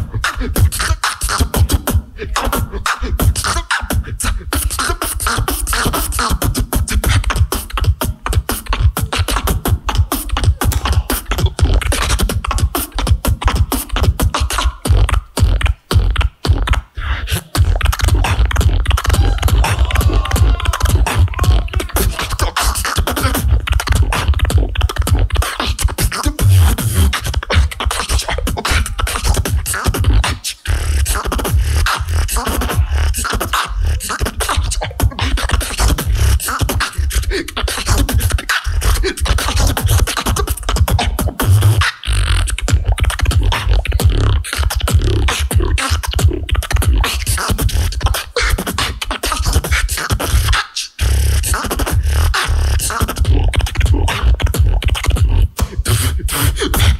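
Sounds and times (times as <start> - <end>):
beatboxing through speakers: 0.0 - 56.9.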